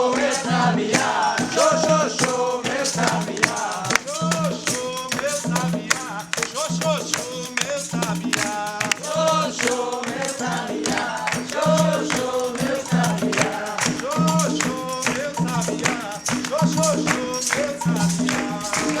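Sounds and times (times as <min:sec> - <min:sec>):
jingling hand percussion: 0:00.0 - 0:19.0
person singing: 0:00.0 - 0:19.0.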